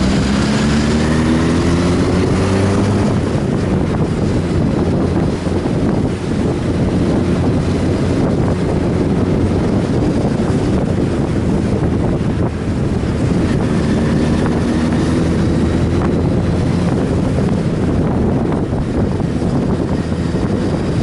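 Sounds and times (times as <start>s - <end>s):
motorcycle engine at speed: 0.0s - 21.0s
wind noise on microphone: 0.0s - 21.0s.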